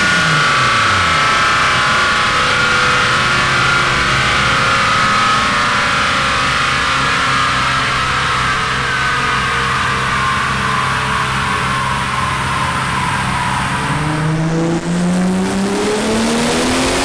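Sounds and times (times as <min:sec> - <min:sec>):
car engine droning on dyno: 0:00.0 - 0:17.0
turbo whirring: 0:00.0 - 0:17.0.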